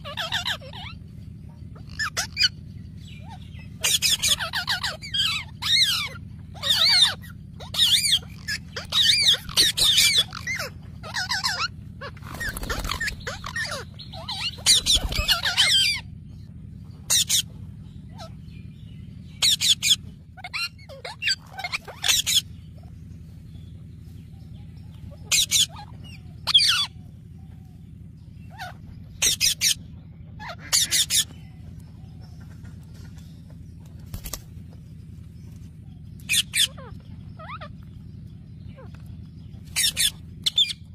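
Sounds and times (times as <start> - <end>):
parrots squawking: 0.0 - 16.1, 17.1 - 17.5, 18.1 - 23.0, 25.0 - 27.1, 28.2 - 34.4, 36.2 - 40.9
low hum: 0.0 - 40.9.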